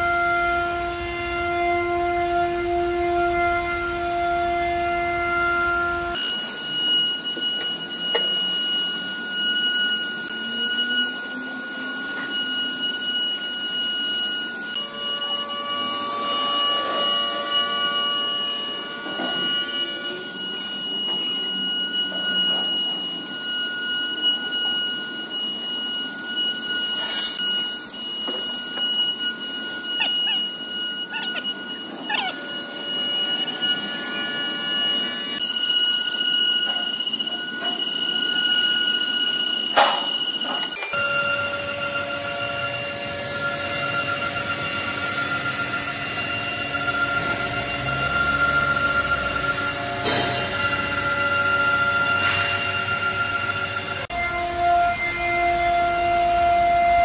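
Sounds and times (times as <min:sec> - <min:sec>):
lower machine tones: 0:00.0 - 0:57.0
router spindle high-pitched whine: 0:00.0 - 0:57.0.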